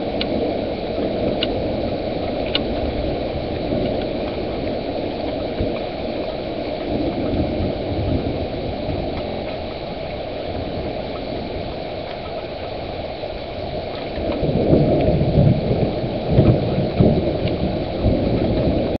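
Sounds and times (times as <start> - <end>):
rain falling: 0.0 - 19.0
thunder rumbling: 0.0 - 19.0.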